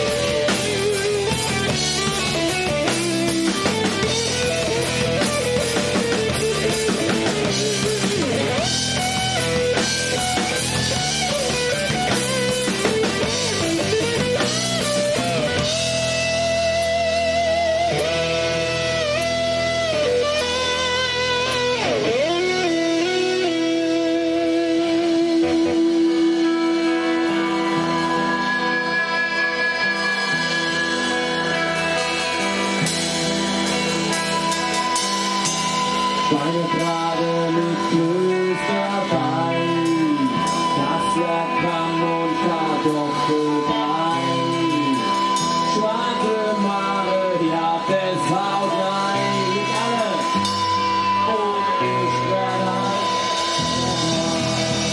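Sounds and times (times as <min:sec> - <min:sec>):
bass guitar: 0:00.0 - 0:54.9
drum kit: 0:00.0 - 0:54.9
guitar melody: 0:00.0 - 0:54.9.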